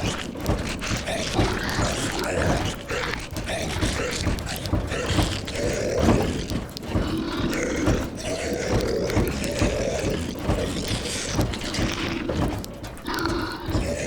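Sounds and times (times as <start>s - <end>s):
small clicks and knocks: 0.0s - 14.0s
zombie growls and grunts: 0.0s - 14.0s.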